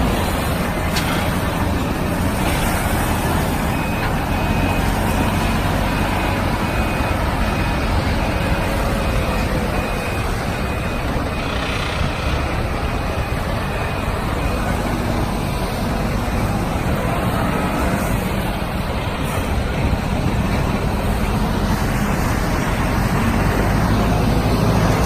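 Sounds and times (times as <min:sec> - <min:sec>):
reversing alarm beeping: 0:00.0 - 0:25.0
truck diesel engine running: 0:00.0 - 0:25.0.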